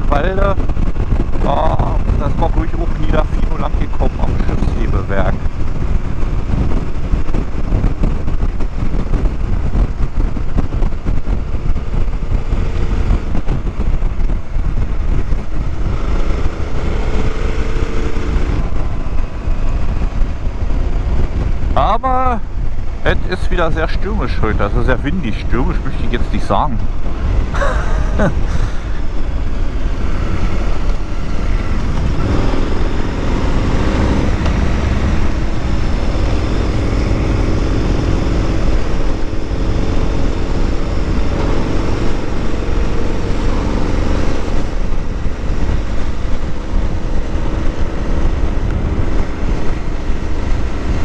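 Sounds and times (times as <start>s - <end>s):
motorcycle engine running: 0.0s - 51.0s
wind rushing over microphone: 0.0s - 51.0s.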